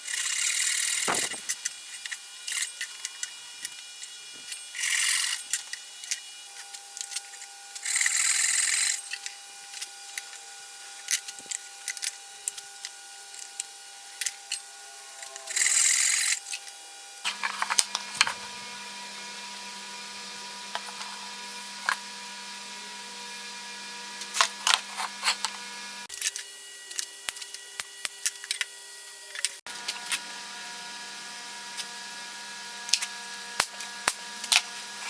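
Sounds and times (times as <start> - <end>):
handheld power tool running: 0.0 - 35.0.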